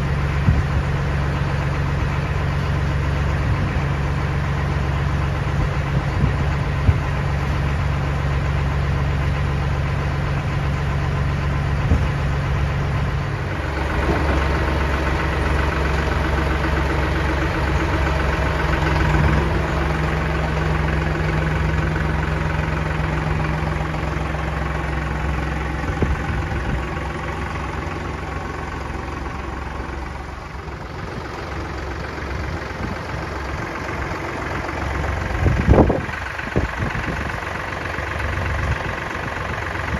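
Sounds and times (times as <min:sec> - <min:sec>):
engine running at low speed: 0:00.0 - 0:39.9.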